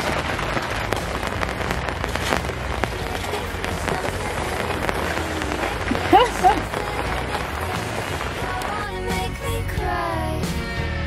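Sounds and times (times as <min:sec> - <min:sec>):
rain pattering on canvas: 0:00.0 - 0:09.3.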